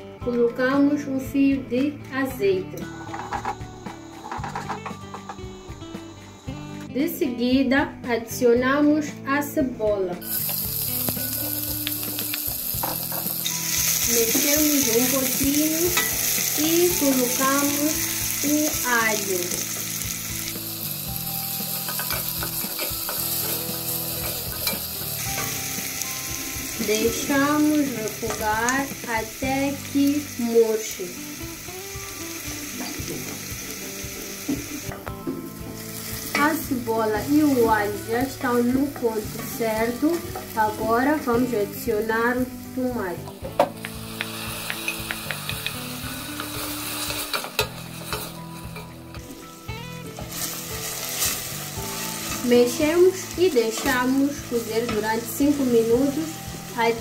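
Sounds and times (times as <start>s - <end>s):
onion sizzling in oil: 10.2s - 57.0s.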